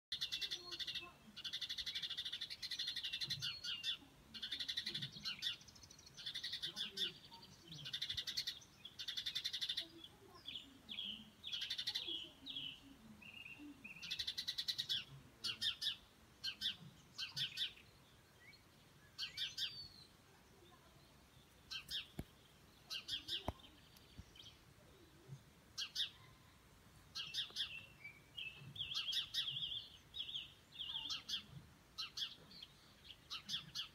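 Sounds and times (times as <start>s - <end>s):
songbirds trilling and chirping: 0.1s - 33.9s.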